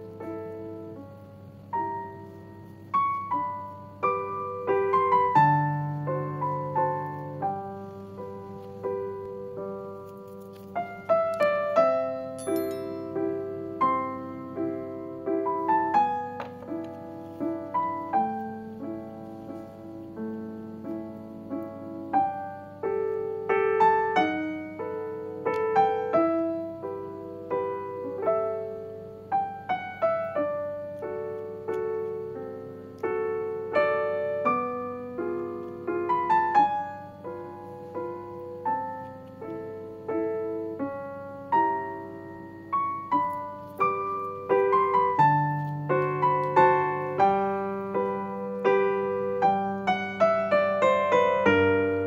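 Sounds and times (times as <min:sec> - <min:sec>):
solo piano music: 0:00.0 - 0:52.0.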